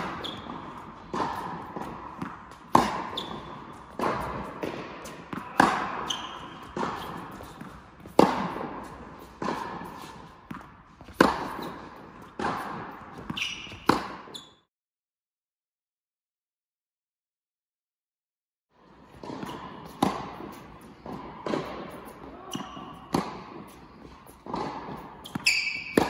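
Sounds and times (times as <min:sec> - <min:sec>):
tennis ball struck with rackets: 0:00.0 - 0:14.4, 0:19.2 - 0:26.0.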